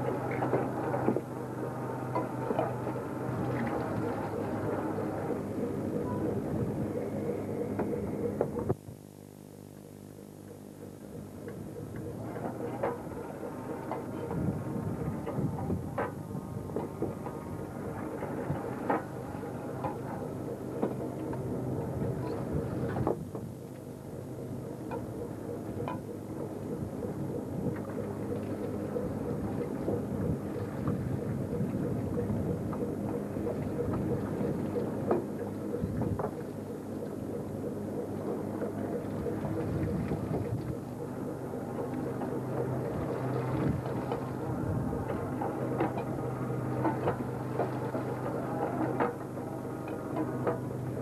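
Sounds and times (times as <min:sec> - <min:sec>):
sea and wind rushing: 0:00.0 - 0:08.8, 0:11.6 - 0:51.0
boat engine drone: 0:00.0 - 0:51.0.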